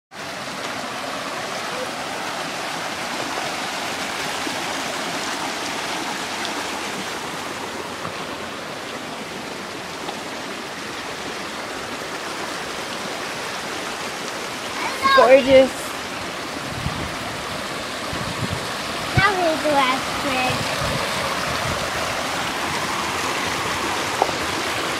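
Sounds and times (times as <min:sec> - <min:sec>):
creek running over rocks: 0:00.1 - 0:24.9.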